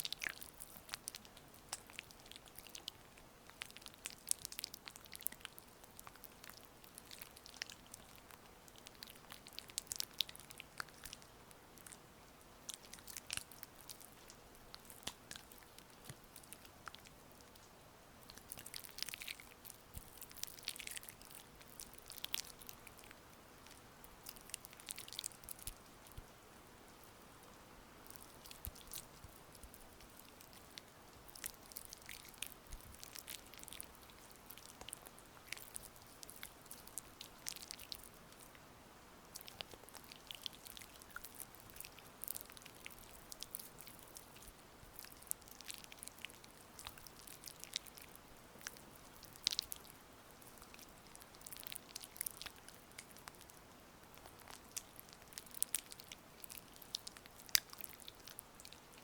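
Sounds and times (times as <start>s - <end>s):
faint rain hiss: 0.0s - 59.0s.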